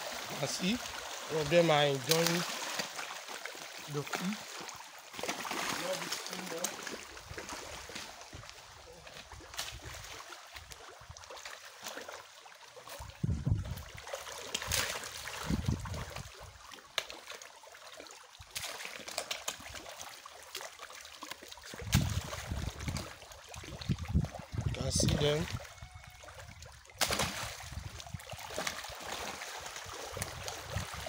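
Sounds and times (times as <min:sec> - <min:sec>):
fish splashing in pond water: 0:00.0 - 0:31.0.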